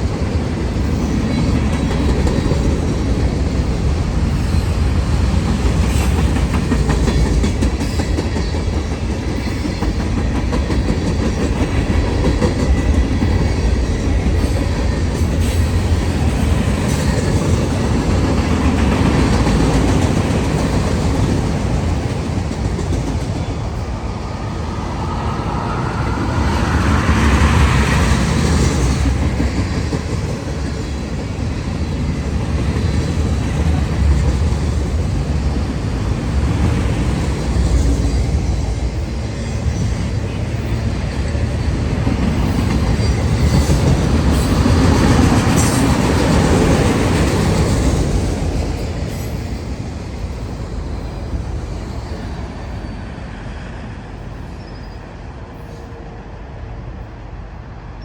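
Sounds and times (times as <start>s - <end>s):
clickety-clack over rail joints: 0.0s - 52.8s
freight train wheels on rail: 0.0s - 58.0s.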